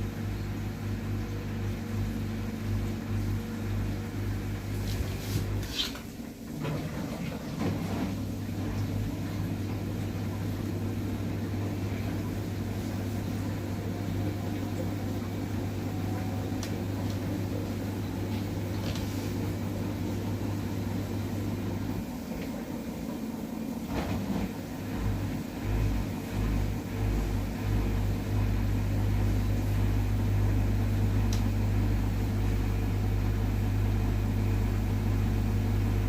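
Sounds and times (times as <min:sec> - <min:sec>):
washing machine drum spinning: 0:00.0 - 0:36.0.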